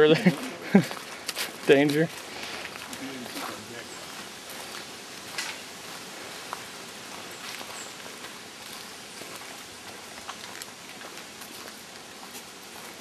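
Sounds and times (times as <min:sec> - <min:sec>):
rainforest ambience hiss: 0:00.0 - 0:13.0.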